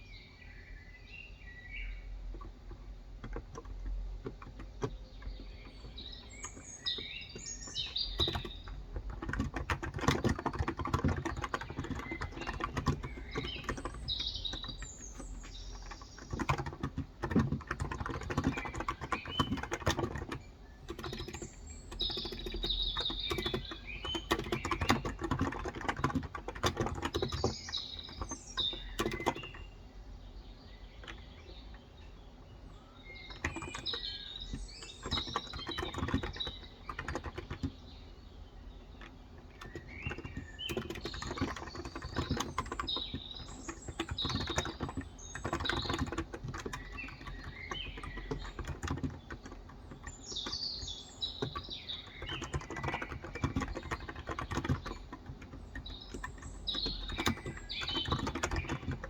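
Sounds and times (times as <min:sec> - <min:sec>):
birds chirping: 0:00.0 - 0:59.0
soft keyboard keystrokes: 0:02.2 - 0:29.8, 0:30.4 - 0:32.1, 0:32.7 - 0:38.0, 0:38.6 - 0:59.0.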